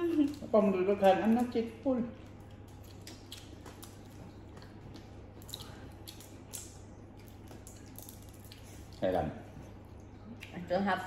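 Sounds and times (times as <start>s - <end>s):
chewing: 0.0s - 10.7s
low steady hum: 0.0s - 11.0s.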